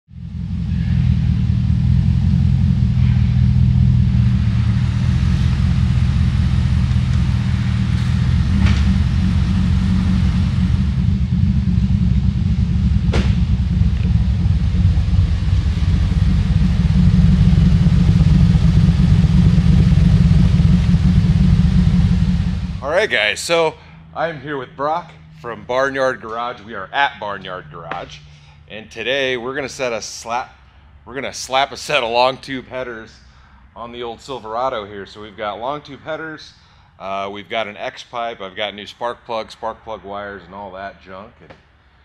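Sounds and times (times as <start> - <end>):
deep engine exhaust rumble: 0.0 - 42.0.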